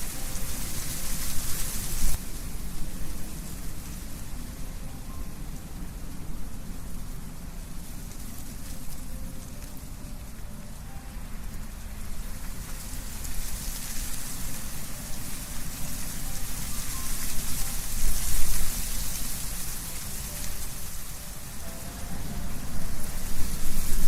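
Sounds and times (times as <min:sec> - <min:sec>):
wind rustling tree leaves: 0:00.0 - 0:24.0.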